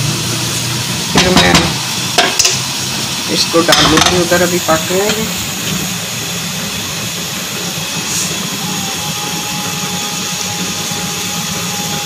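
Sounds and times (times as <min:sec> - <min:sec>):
gas stove burner roaring: 0:00.0 - 0:12.0.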